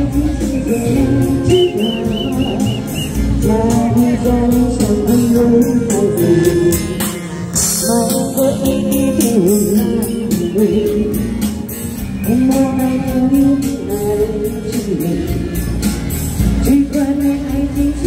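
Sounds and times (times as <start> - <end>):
person singing: 0.0 - 15.8, 16.6 - 18.0.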